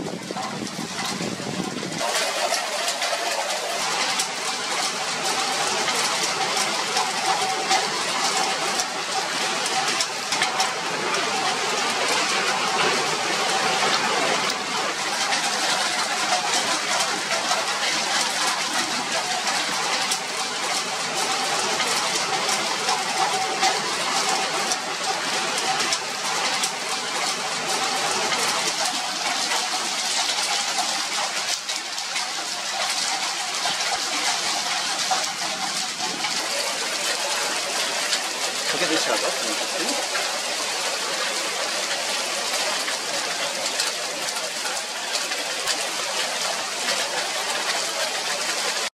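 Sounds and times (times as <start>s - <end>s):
heavy rain and hail: 0.0s - 48.9s.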